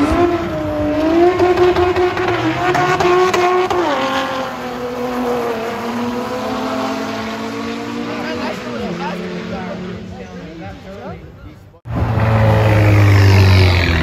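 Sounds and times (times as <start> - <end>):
car accelerating hard: 0.0 - 11.1, 11.9 - 14.0.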